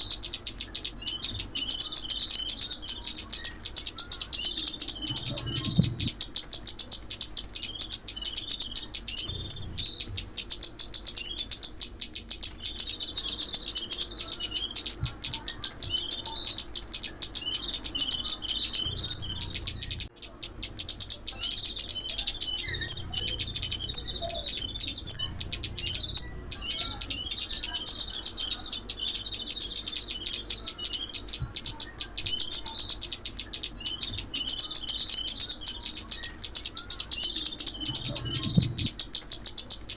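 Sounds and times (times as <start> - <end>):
songbird chirping and twittering: 0.0 - 39.9.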